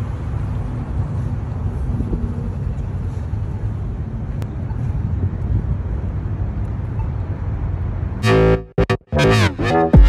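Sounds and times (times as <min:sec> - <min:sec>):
passing cars rumbling: 0:00.0 - 0:08.6.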